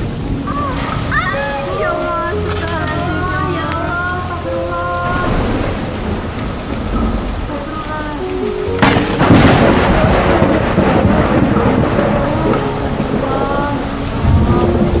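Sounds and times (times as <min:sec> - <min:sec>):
heavy rain in strong wind: 0:00.0 - 0:15.0.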